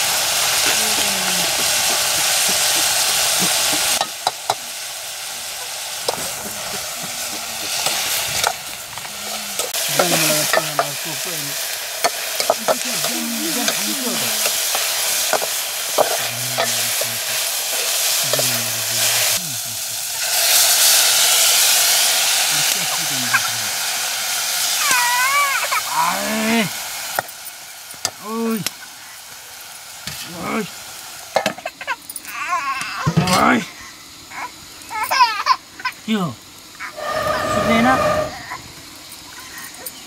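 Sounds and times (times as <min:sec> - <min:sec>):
food sizzling in metal pot: 0:00.0 - 0:40.0.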